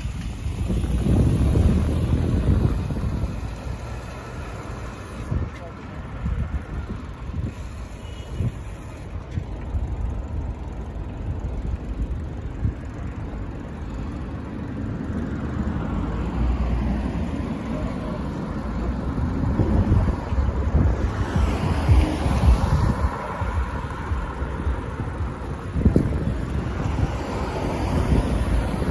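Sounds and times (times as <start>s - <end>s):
city street traffic: 0.0s - 28.9s
wind rumbling on microphone: 0.0s - 28.9s.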